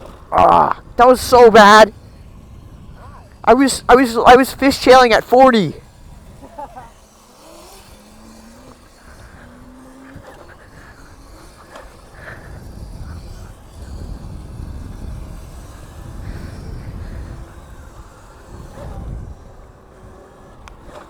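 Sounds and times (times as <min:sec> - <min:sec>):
wind rumble on microphone: 0:00.0 - 0:05.2, 0:05.8 - 0:21.0
electric motor whine: 0:00.0 - 0:21.0.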